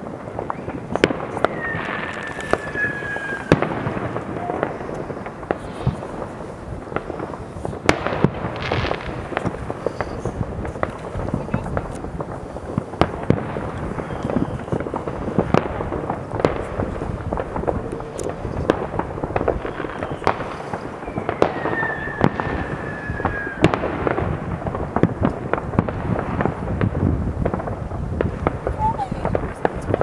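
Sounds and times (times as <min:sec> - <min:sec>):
fireworks bangs and crackles: 0:00.0 - 0:30.0
whistling firework: 0:00.0 - 0:30.0.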